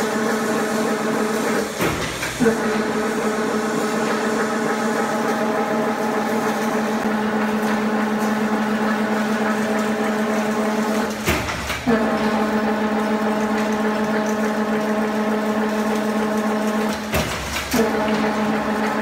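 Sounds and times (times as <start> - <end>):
weaving machine humming: 0.0 - 19.0.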